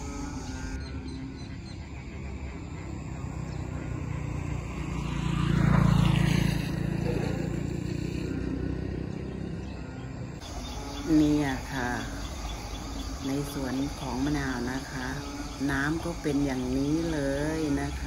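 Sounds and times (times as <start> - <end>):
engine passing by: 0.0 - 18.0.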